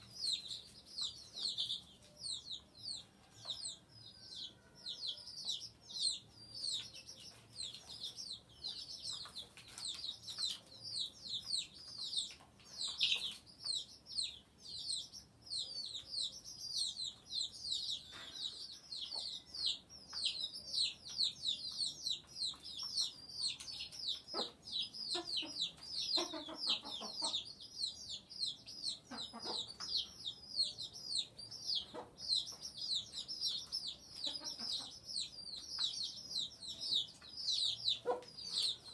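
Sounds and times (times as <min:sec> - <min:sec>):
chickens clucking: 0:00.0 - 0:38.9
chicks chirping: 0:00.0 - 0:38.9.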